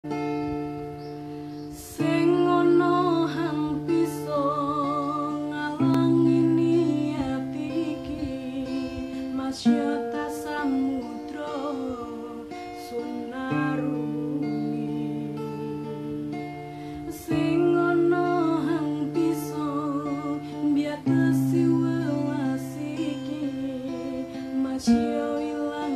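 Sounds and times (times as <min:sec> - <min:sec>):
acoustic guitar chords: 0:00.0 - 0:25.9
woman singing with vibrato: 0:01.7 - 0:25.9.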